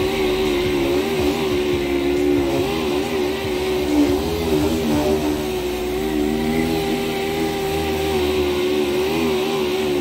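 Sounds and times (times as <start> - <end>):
orbital sander whirring: 0.0 - 10.0.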